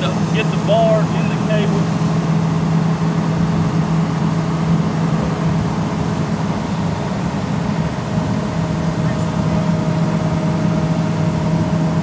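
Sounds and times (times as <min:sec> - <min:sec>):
excavator diesel engines droning: 0:00.0 - 0:12.0.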